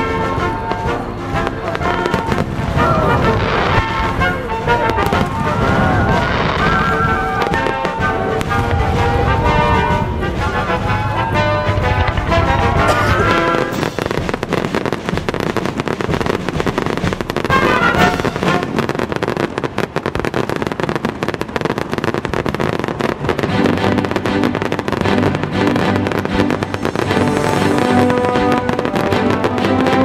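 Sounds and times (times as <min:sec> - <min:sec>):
fireworks bursting: 0:00.0 - 0:30.0
fireworks crackling: 0:00.0 - 0:30.0
music playing: 0:00.0 - 0:30.0.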